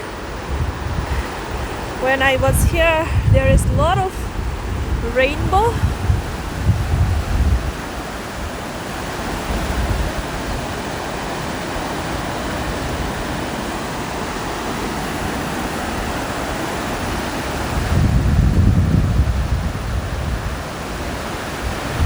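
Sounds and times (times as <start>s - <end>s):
waterfall rushing: 0.0s - 18.4s
wind buffeting microphone: 0.0s - 22.0s.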